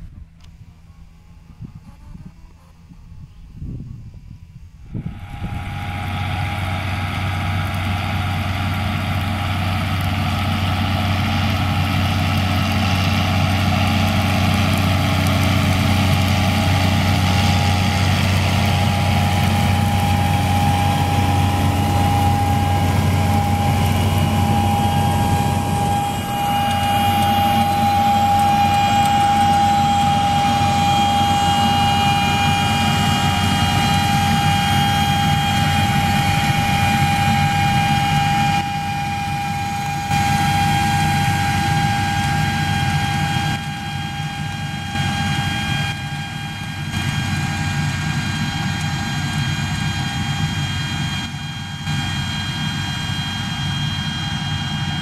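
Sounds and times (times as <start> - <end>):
high whine: 0.0 - 55.0
tractor diesel engine running: 3.1 - 55.0.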